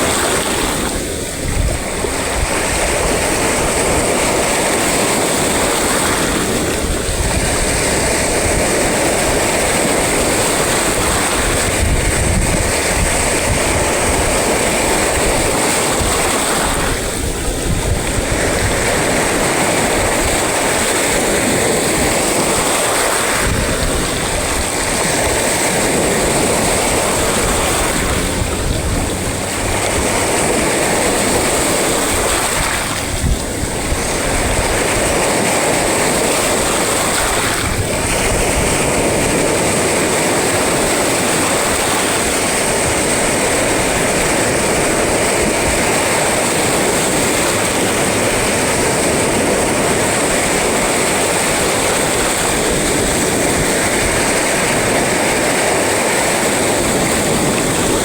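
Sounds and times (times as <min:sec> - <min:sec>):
waves breaking roar: 0:00.0 - 0:58.0.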